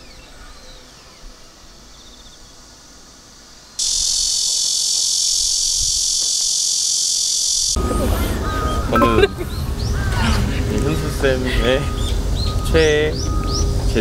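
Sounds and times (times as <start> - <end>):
cicadas chorus: 0.0 - 14.0.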